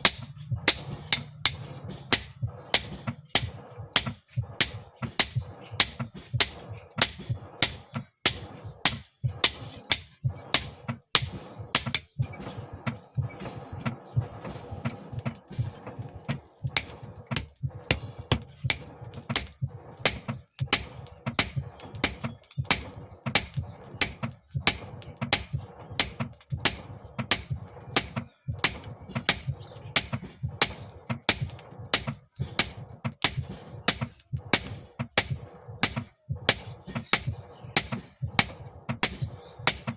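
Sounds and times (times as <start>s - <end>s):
hammer striking steel on anvil: 0.0s - 12.1s, 16.3s - 39.9s.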